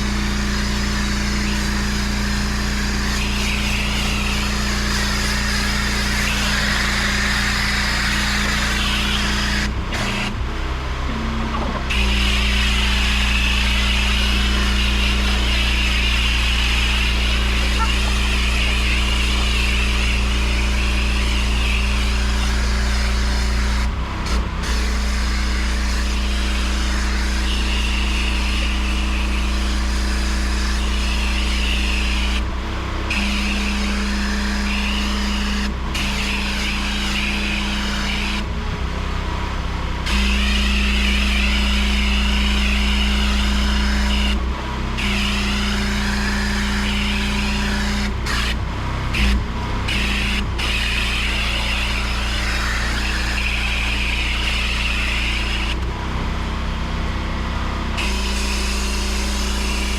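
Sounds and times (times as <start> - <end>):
water jet spraying on paving: 0.0 - 10.4, 11.9 - 38.6, 40.0 - 44.4, 45.0 - 48.6, 49.2 - 55.8
pressure washer motor: 0.0 - 59.9.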